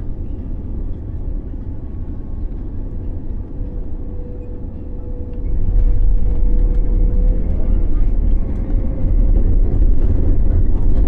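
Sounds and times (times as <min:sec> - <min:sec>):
faint steady whine: 0:00.0 - 0:11.0
low rumble of engines and airflow: 0:00.0 - 0:11.0.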